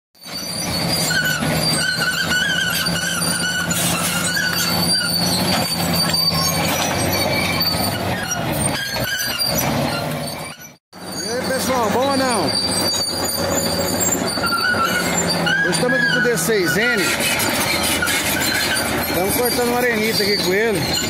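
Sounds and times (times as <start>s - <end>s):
bulldozer diesel engine under load: 0.1s - 21.0s
high wavering steel squeals: 0.2s - 21.0s
rock grinding: 0.3s - 21.0s.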